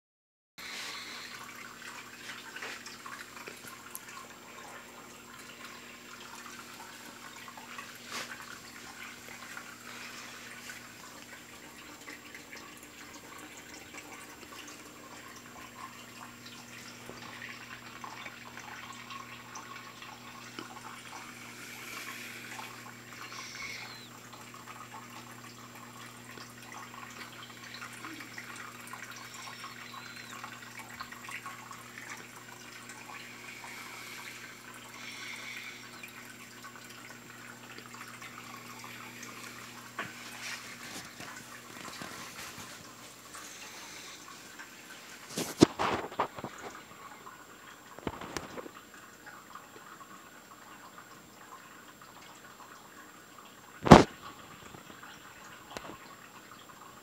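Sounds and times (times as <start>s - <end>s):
water trickling and splashing: 0.6s - 57.0s.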